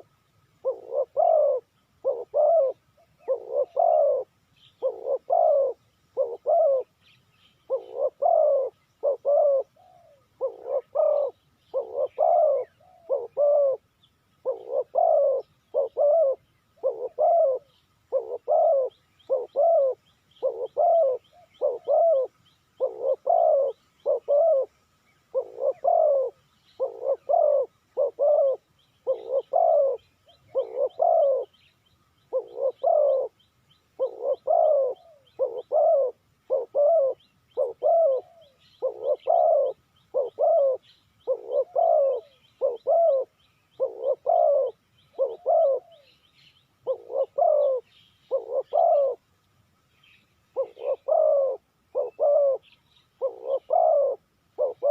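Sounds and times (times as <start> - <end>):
dove cooing: 0.0 - 49.3, 50.5 - 54.9
small bird chirping: 0.0 - 54.9.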